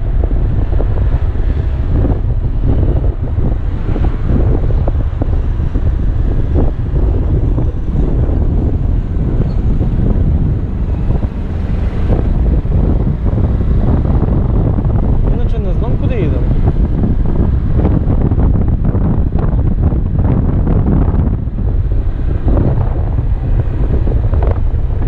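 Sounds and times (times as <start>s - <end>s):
wind rush on microphone: 0.0s - 25.0s.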